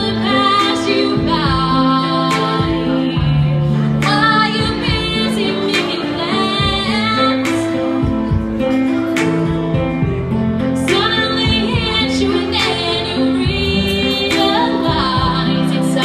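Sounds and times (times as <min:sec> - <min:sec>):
woman singing with vibrato: 0:00.0 - 0:08.6, 0:10.8 - 0:16.0
instrumental backing music: 0:00.0 - 0:16.0.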